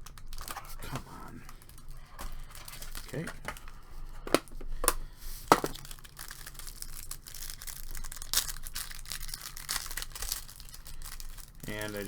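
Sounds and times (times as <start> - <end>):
tin pack scraping and crinkling: 0.0 - 12.0.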